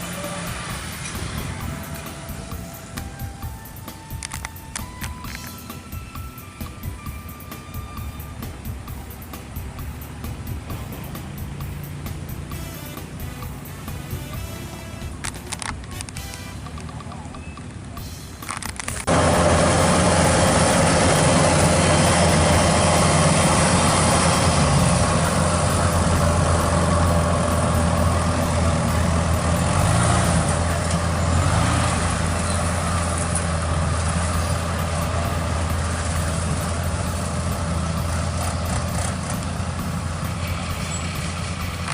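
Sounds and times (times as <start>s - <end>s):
heavy farm machine engine running: 0.0s - 41.9s.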